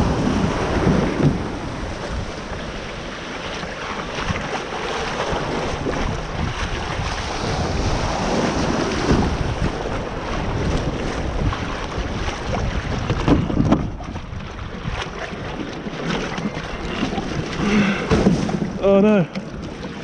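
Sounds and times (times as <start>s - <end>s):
water lapping along hull: 0.0s - 20.0s
wind buffeting microphone: 0.0s - 20.0s.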